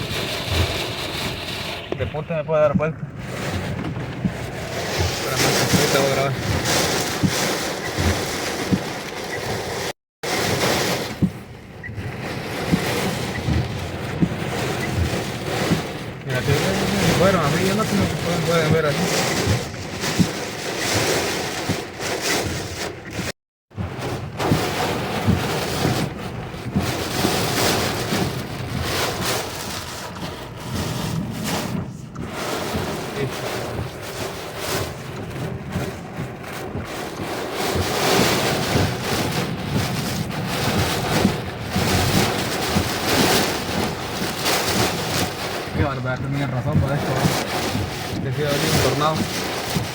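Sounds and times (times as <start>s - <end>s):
heavy rain: 0.0s - 49.9s
wind buffeting a car: 0.0s - 49.9s.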